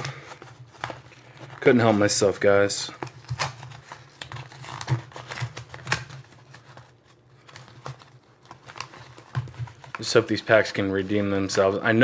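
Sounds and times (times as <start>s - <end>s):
paper envelope tearing: 0.0s - 11.6s.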